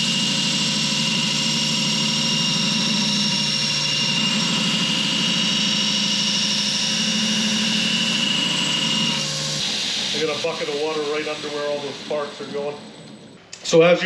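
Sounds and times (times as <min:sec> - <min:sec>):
belt grinder grinding steel: 0:00.0 - 0:13.3.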